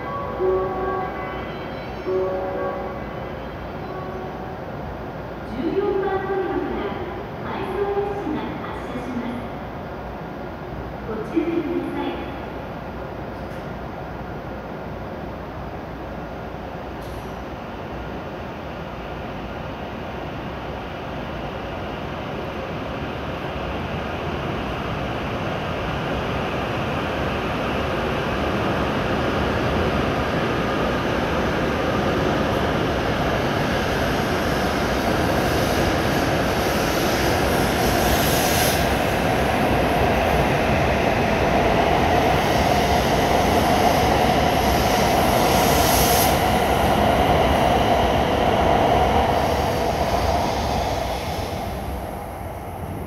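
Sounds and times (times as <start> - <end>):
train rumbling and hissing: 0.0 - 53.0.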